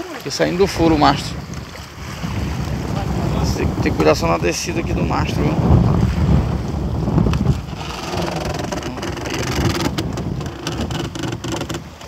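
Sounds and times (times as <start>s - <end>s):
sea washing around boat: 0.0s - 12.0s
wind buffeting microphone: 0.0s - 12.0s.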